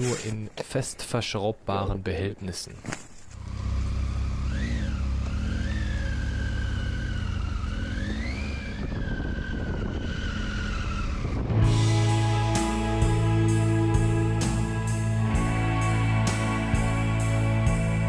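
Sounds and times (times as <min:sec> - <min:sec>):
motorcycle engine pulling away: 0:03.3 - 0:18.0.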